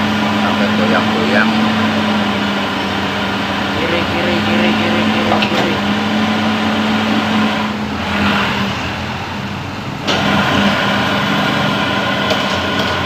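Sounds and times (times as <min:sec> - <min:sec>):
large vehicle passing: 0:00.0 - 0:12.2
excavator diesel engine humming: 0:00.0 - 0:13.0.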